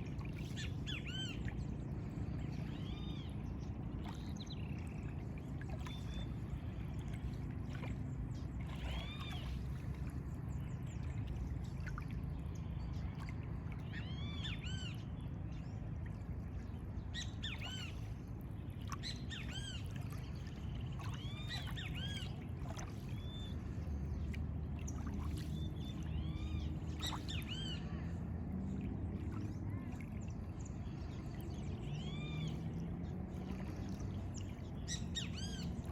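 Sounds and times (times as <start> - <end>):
low background rumble: 0.0 - 35.9.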